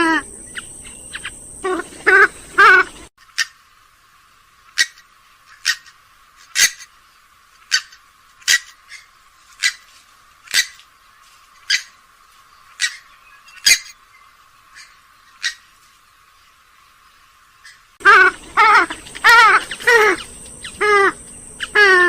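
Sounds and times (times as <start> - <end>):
swamphen calling: 0.0 - 3.7, 4.7 - 7.0, 7.6 - 10.9, 11.6 - 15.8, 17.6 - 22.0.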